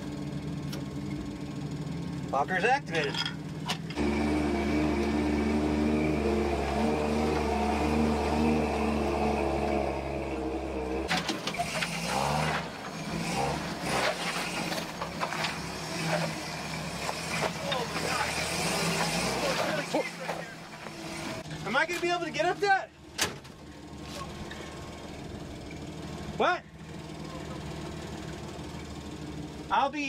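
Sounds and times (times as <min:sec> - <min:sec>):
truck engine pulling: 0:00.0 - 0:30.0.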